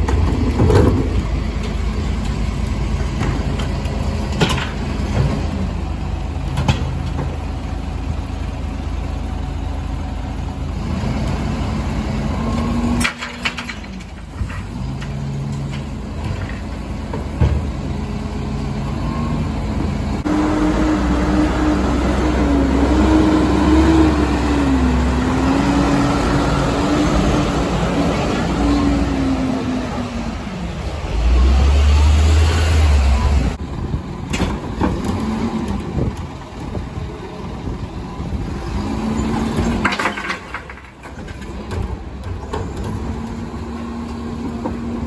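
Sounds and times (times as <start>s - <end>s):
garbage truck engine running: 0.0s - 45.0s.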